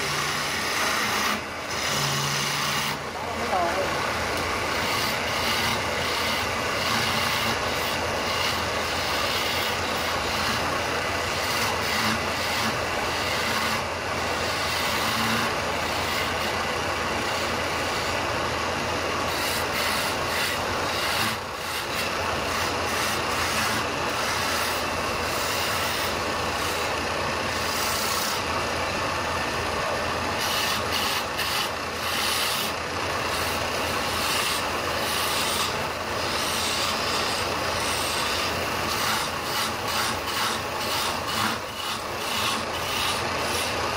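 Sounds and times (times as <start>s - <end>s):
chisel scraping wood: 0.0s - 3.8s, 4.4s - 16.6s, 19.3s - 28.5s, 30.3s - 43.9s
lathe motor hum: 0.0s - 43.9s.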